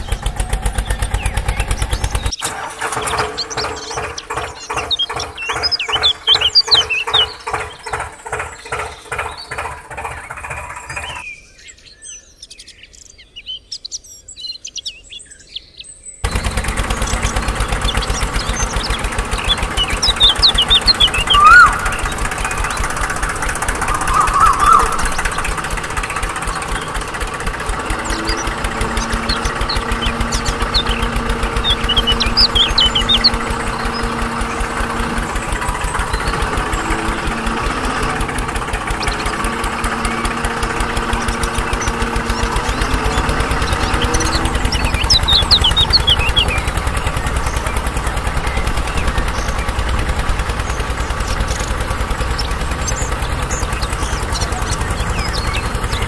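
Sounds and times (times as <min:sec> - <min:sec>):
diesel tractor engine chugging: 0:00.0 - 0:15.3, 0:16.2 - 0:56.0
birds chirping: 0:00.0 - 0:56.0.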